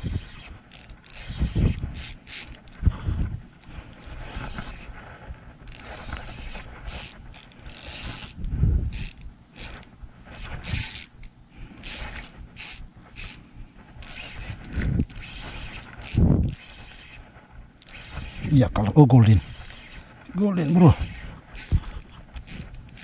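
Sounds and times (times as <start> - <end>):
fishing reel clicking: 0.0 - 3.3, 5.6 - 13.4, 14.0 - 17.2, 17.8 - 18.6, 19.5 - 23.0.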